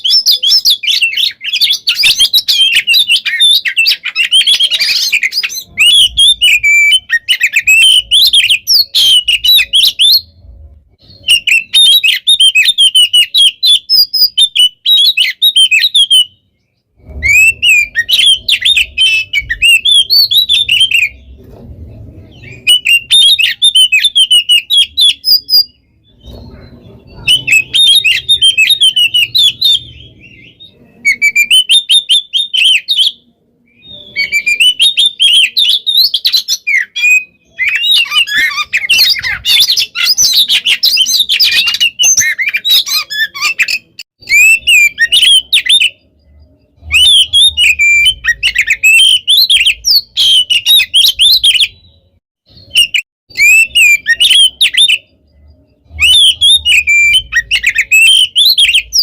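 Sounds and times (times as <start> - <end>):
songbird whistling and chattering: 0.0 - 59.0.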